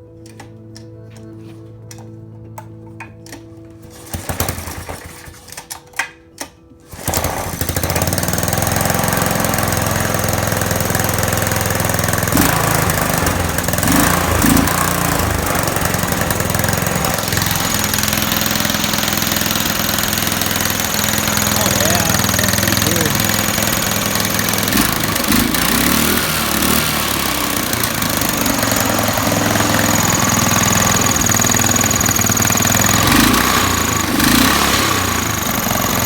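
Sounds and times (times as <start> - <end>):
mini bike engine cranking and running: 3.8 - 36.0.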